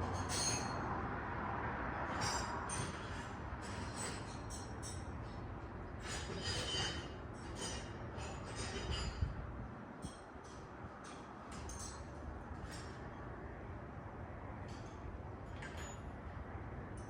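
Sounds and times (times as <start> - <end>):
light clinks and rattles: 0.0 - 0.9, 2.1 - 13.4, 14.6 - 17.0.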